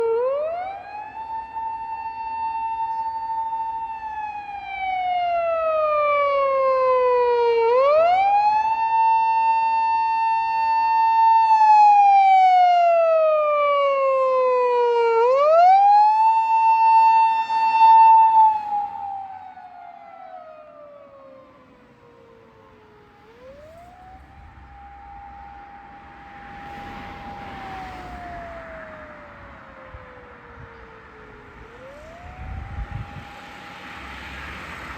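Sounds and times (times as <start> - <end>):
police siren wailing: 0.0 - 34.9.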